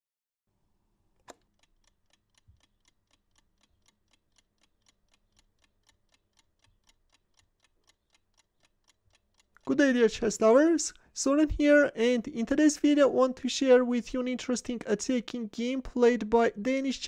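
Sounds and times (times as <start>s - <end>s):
chess clock ticking: 1.3s - 17.0s.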